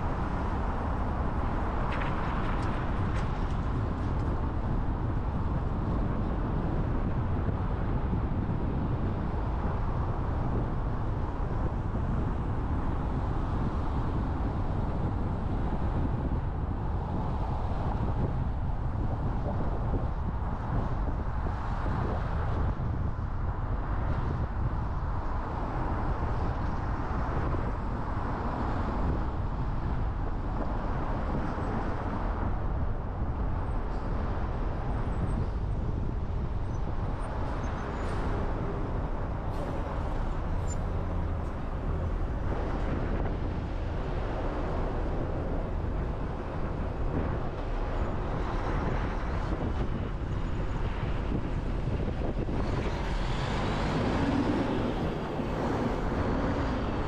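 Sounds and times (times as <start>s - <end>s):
car road rumble and tyre noise: 0.0s - 57.0s.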